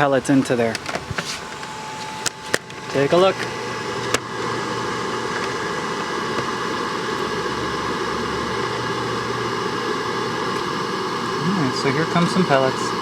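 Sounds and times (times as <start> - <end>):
grill fan blowing: 0.0 - 13.0
auger motor humming: 0.6 - 13.0.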